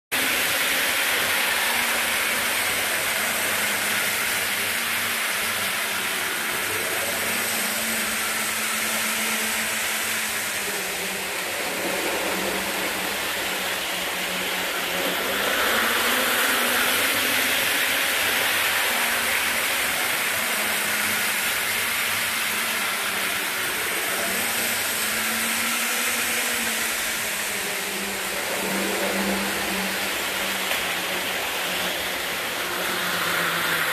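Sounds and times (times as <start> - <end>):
model train motors whirring: 0.2 - 33.9.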